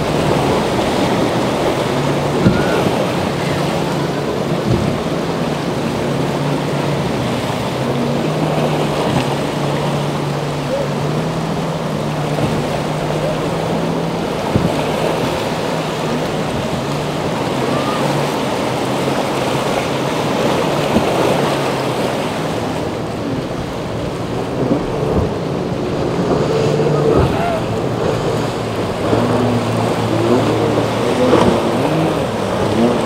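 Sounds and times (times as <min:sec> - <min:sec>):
low engine hum: 0:00.0 - 0:33.0
motorboat engines: 0:00.0 - 0:33.0
waves rushing: 0:00.0 - 0:33.0.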